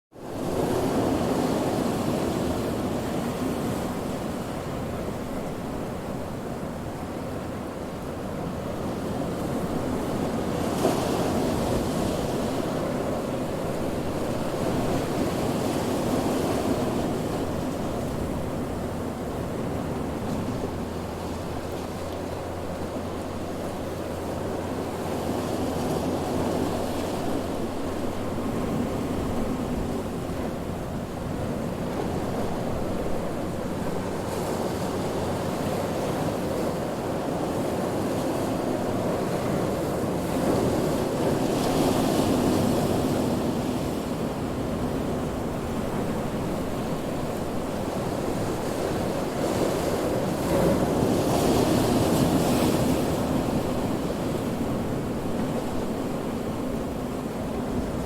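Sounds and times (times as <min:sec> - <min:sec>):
ocean waves breaking: 0:00.2 - 0:58.0.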